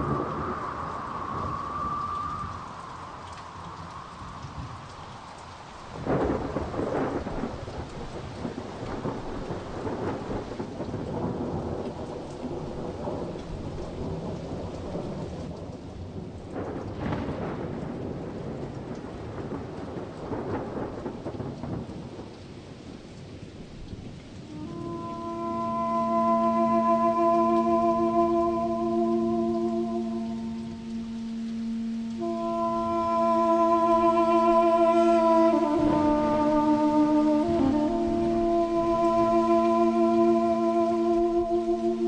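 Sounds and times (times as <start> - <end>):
rolling thunder: 0.0 - 42.0
steady rain: 0.0 - 42.0.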